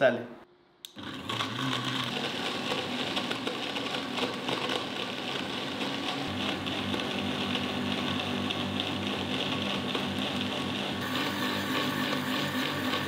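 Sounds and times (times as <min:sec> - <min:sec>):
blender running: 0:00.9 - 0:13.0.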